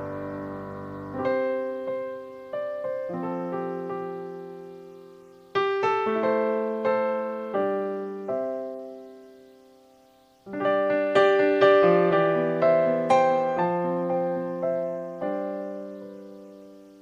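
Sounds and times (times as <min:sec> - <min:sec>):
slow gentle solo piano: 0:00.0 - 0:17.0.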